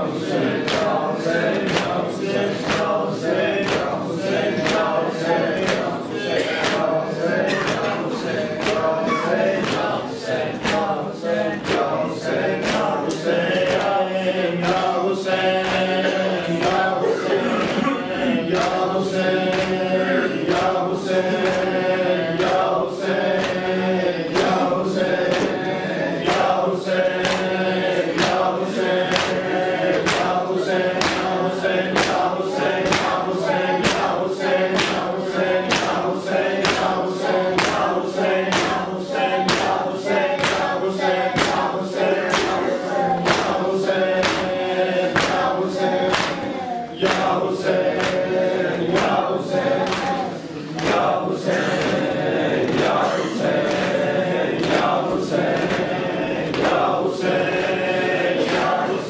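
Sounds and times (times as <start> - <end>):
men chanting in chorus: 0.0 - 59.0.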